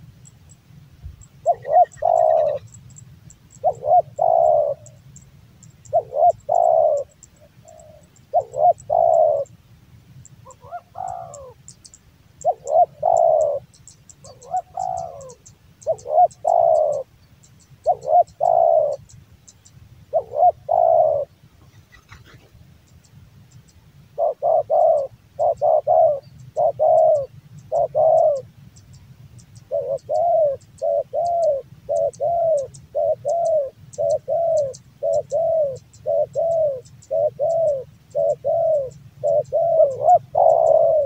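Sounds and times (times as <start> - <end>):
dove cooing: 1.4 - 2.8, 3.5 - 5.2, 5.8 - 9.6, 10.4 - 17.1, 17.8 - 19.2, 20.1 - 22.5, 24.1 - 28.5, 29.6 - 41.0.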